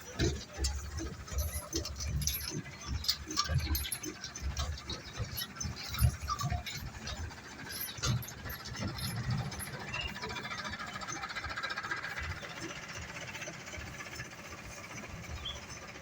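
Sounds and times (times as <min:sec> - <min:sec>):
road roller engine rumble: 0:00.0 - 0:16.0.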